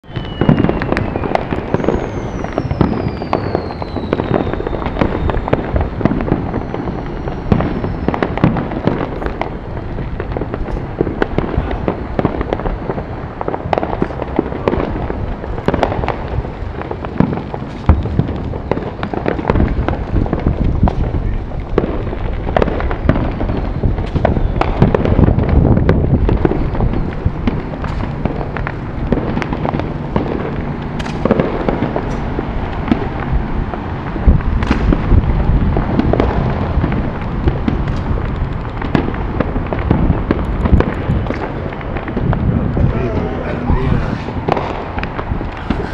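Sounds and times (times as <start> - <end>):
falling firework whistle: 0.0 - 45.9
fireworks and firecrackers bangs: 0.0 - 45.9.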